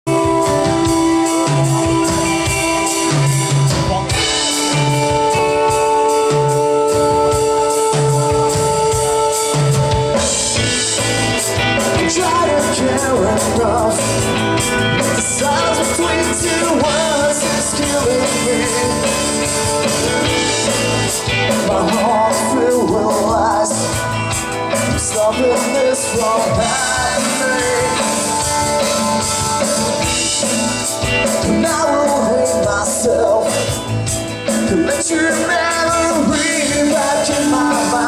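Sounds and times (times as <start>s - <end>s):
person singing: 0.0s - 38.0s
rock music with drums and bass: 0.0s - 38.0s.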